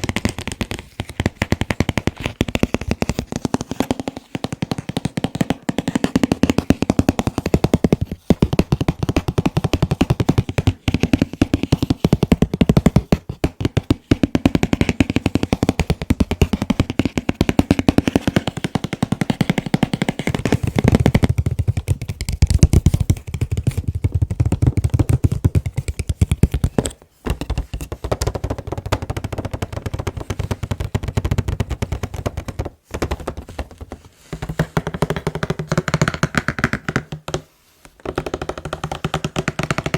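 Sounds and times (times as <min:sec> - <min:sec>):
fingertips tapping on a box: 0:00.0 - 0:39.9.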